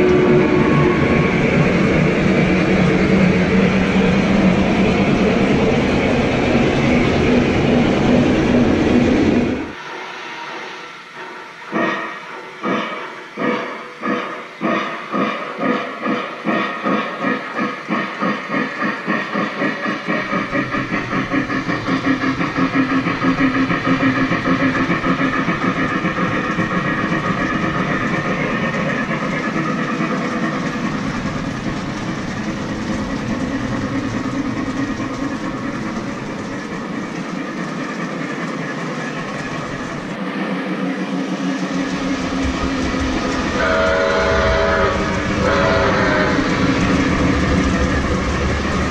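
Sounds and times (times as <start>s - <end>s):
model steam locomotive chuffing: 0.0s - 48.9s.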